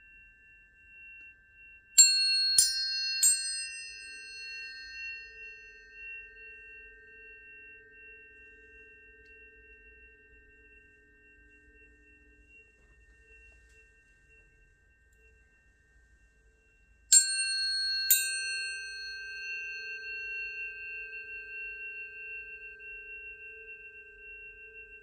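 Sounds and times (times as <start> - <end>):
low steady tone: 0.0 - 25.0
tuning forks ringing: 0.0 - 25.0.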